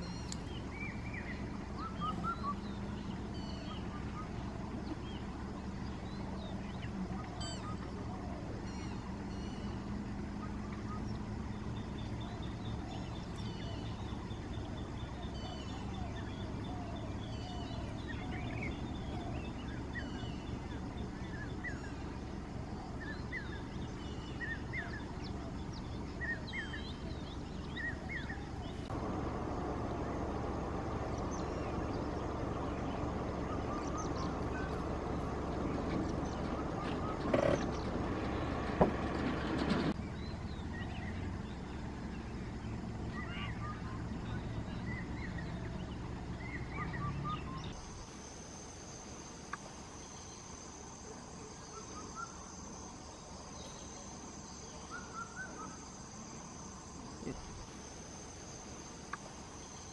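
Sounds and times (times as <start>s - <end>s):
birds chirping and trilling: 0.0s - 59.9s
steady low hum: 0.0s - 59.9s.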